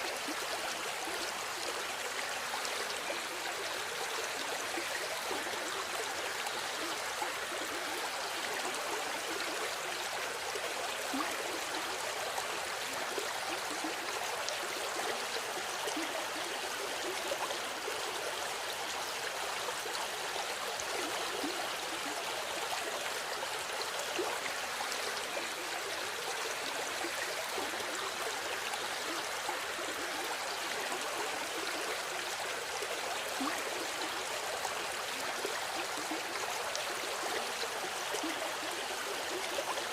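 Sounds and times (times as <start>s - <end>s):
river water babbling over rocks: 0.0s - 39.9s.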